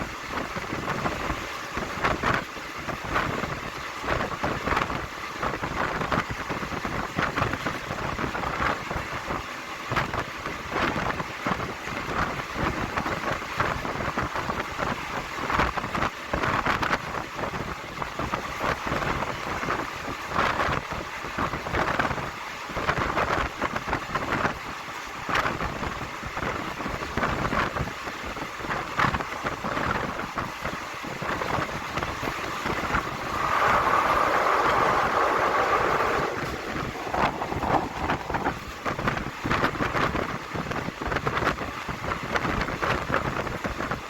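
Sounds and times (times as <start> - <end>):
rush of wind and running noise: 0.0 - 44.0.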